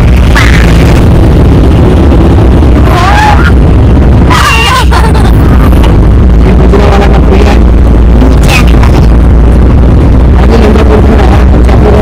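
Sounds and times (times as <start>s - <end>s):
road noise inside car: 0.0s - 12.0s
wind noise on microphone: 0.0s - 12.0s.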